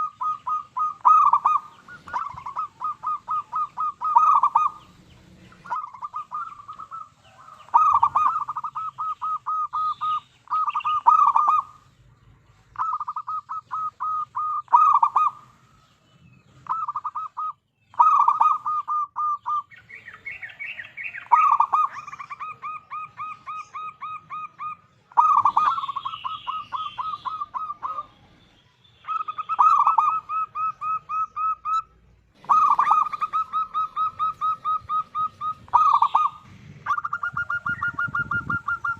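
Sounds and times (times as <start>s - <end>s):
dove cooing in staccato notes: 0.0s - 11.9s, 12.6s - 15.8s, 16.4s - 28.4s, 29.0s - 38.9s.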